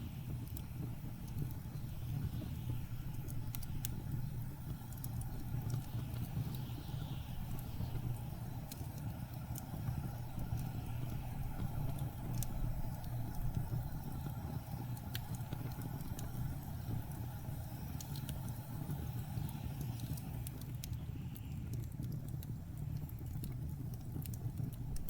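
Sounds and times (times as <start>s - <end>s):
wood fire popping and crackling: 0.0s - 25.0s.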